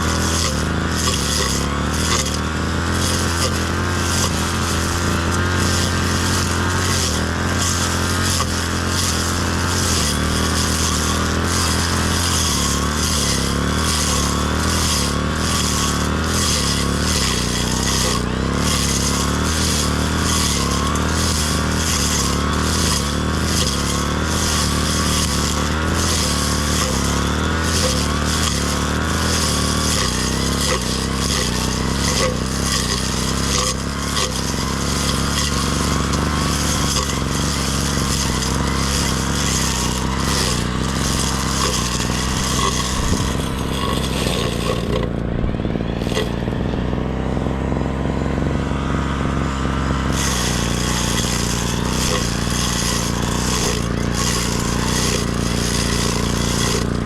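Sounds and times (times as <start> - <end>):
brush cutter engine running: 0.0 - 57.0.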